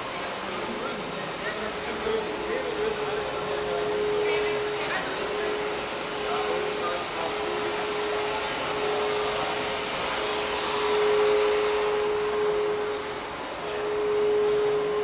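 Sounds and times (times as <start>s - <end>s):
milling spindle whine: 0.0s - 15.0s
vacuum-like hiss: 0.0s - 15.0s.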